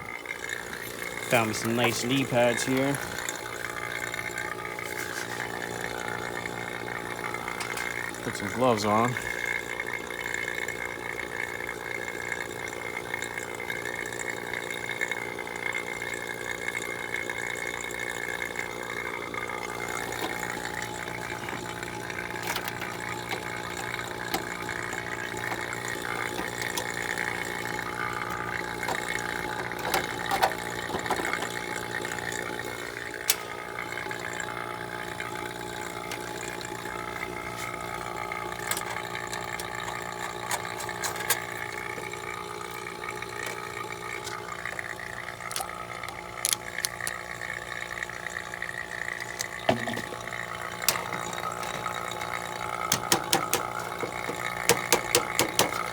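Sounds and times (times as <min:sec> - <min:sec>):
vacuum pump running: 0:00.0 - 0:55.9.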